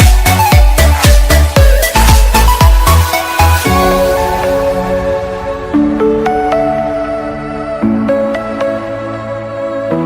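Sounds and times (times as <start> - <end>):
soft electronic music: 0.0 - 10.0.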